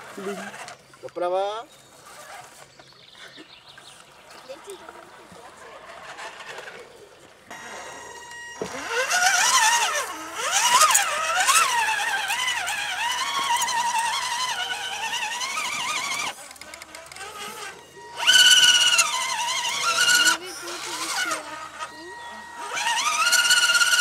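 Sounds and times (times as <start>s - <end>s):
toy truck electric motor whine: 0.0s - 1.0s, 1.9s - 2.8s, 4.4s - 24.0s.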